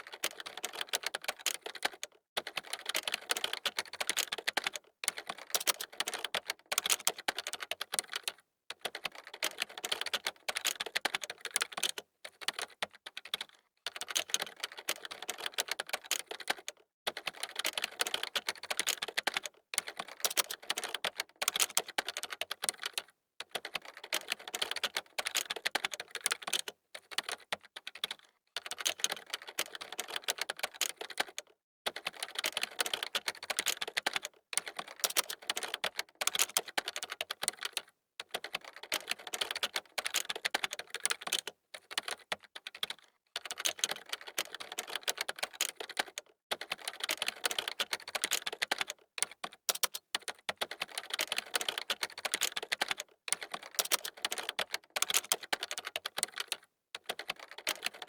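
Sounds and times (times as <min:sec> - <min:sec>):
fast typing on keyboard: 0:00.0 - 0:58.0.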